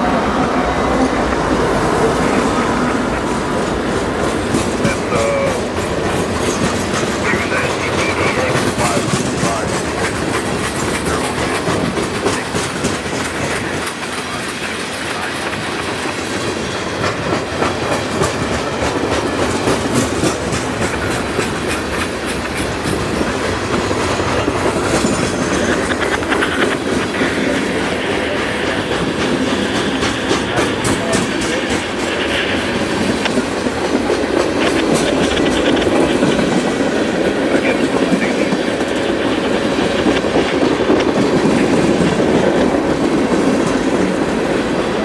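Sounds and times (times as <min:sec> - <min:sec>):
freight cars rumbling on rails: 0:00.0 - 0:45.0
wheels clickety-clack: 0:01.0 - 0:45.0.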